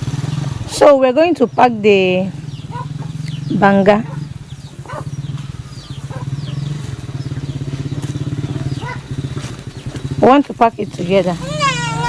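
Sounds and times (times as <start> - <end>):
small engine running: 0.0 - 1.1, 1.7 - 12.0
birds chirping: 0.0 - 12.0.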